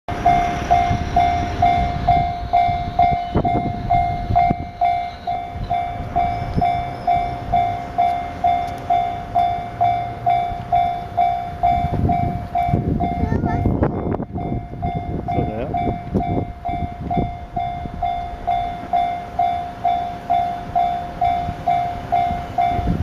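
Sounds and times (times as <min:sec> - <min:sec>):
level-crossing bell ringing: 0:00.1 - 0:23.0
train rumbling and clattering: 0:00.1 - 0:23.0.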